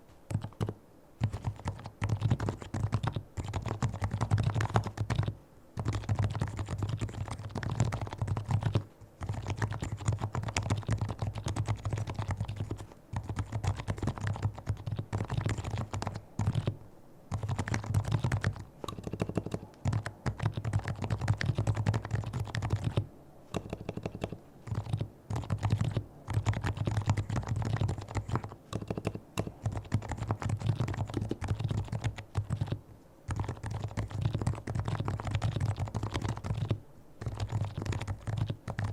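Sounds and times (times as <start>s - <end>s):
fast keyboard typing: 0.3s - 38.9s.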